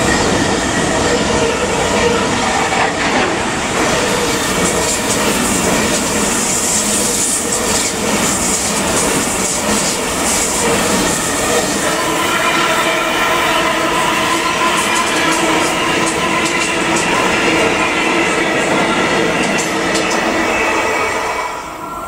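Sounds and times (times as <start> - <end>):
freight train wheels on rails: 0.0 - 22.0
high-speed train rolling slowly: 0.0 - 22.0.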